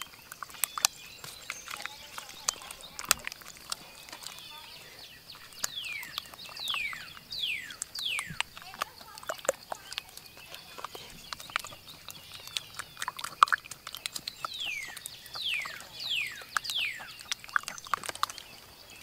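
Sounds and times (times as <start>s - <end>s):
stalk stirring egg in gourd: 0.0s - 19.0s.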